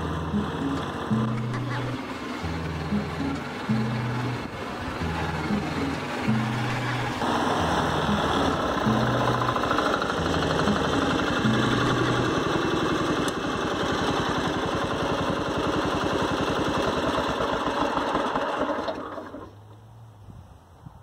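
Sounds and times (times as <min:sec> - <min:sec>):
garden tractor engine running: 0:00.0 - 0:19.9.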